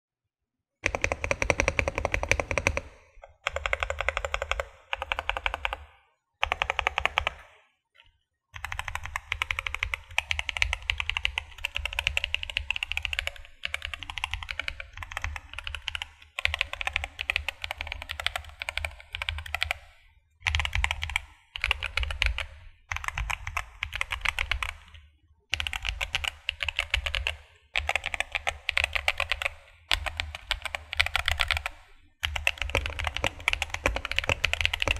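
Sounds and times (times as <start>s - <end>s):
mechanical keyboard typing: 0.8s - 7.5s, 8.6s - 34.9s.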